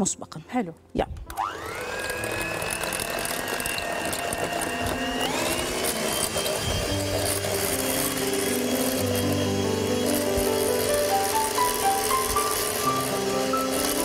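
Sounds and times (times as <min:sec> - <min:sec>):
background music: 0:00.0 - 0:14.0
hand mixer motor whine: 0:01.3 - 0:14.0.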